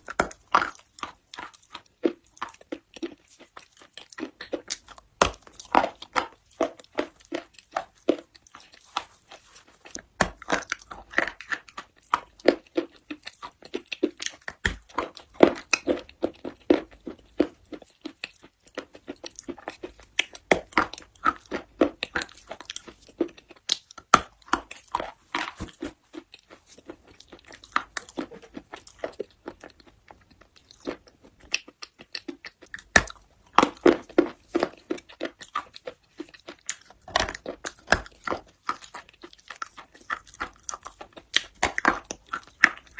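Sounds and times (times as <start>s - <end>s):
crunchy chewing and grinding: 0.0s - 42.9s.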